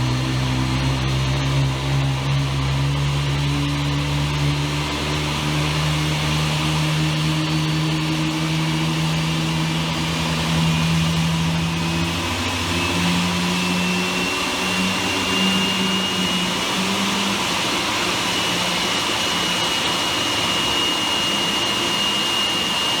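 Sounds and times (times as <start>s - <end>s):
low hum: 0.0s - 22.8s
high engine whine: 0.0s - 23.0s
jet engines roaring: 0.0s - 23.0s.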